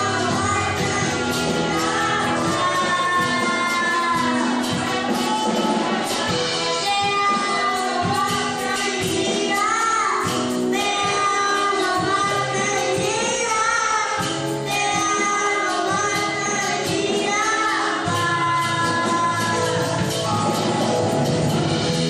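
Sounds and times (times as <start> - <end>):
girl singing: 0.0 - 20.7
instrumental accompaniment: 0.0 - 22.0.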